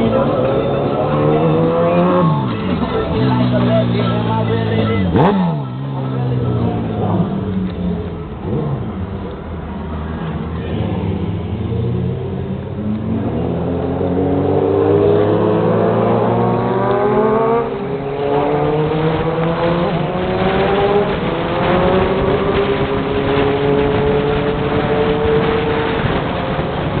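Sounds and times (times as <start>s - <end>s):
engine accelerating: 0.0s - 27.0s.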